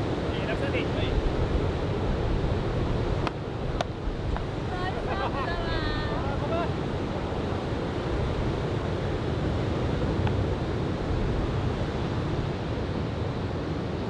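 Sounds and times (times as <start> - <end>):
surf breaking on sandy beach: 0.0 - 13.0
wind buffeting microphone: 0.0 - 14.0.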